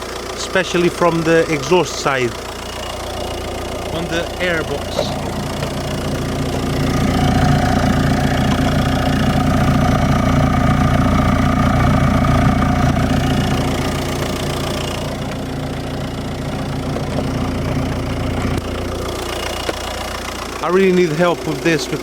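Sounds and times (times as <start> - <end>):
diesel engine idling: 0.0 - 22.0
metallic engine noise: 0.0 - 22.0.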